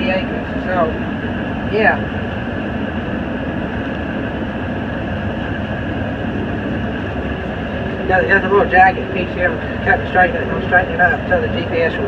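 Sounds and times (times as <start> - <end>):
combine harvester mechanical drone: 0.0 - 12.0
faint high whine: 0.0 - 12.0.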